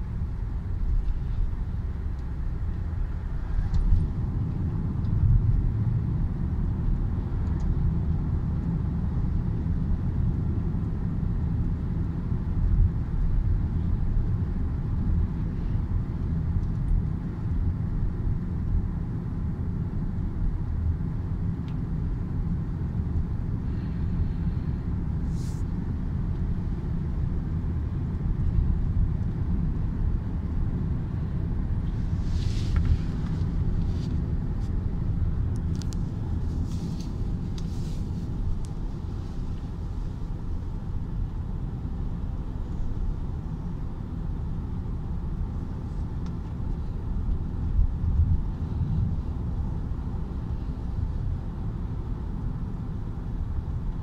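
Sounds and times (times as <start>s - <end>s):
road and engine rumble in car: 0.0s - 54.0s.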